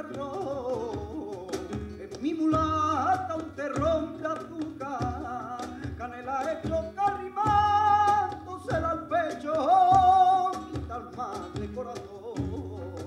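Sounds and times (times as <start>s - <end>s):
flamenco guitar: 0.0s - 13.0s
man singing melismatic notes: 0.0s - 13.0s.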